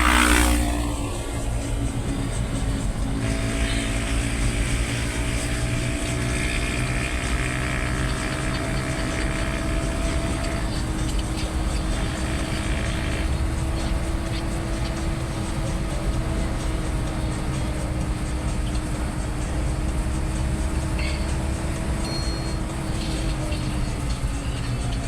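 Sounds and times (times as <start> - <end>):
road rumble: 0.0 - 25.0
vehicle engine droning: 0.0 - 25.0.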